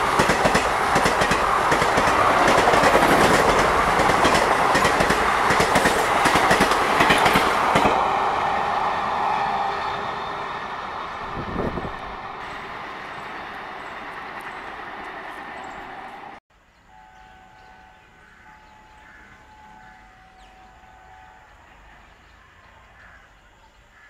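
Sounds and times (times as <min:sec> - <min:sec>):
passenger train rumbling past: 0:00.0 - 0:23.1.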